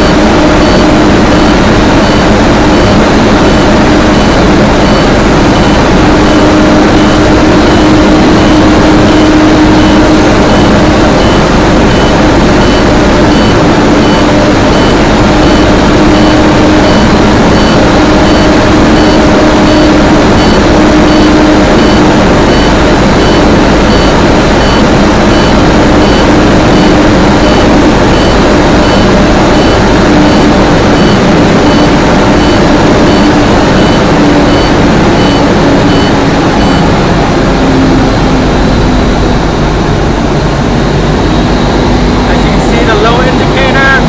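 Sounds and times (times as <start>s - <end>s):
air compressor running: 0.0s - 44.0s
diesel truck engine idling: 0.0s - 44.0s
repeating electronic beep: 0.0s - 44.0s.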